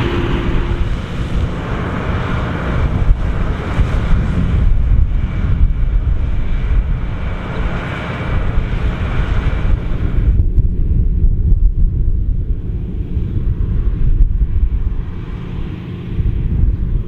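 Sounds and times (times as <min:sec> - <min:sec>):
combine harvester droning: 0:00.0 - 0:17.0
wind buffeting microphone: 0:00.0 - 0:17.0.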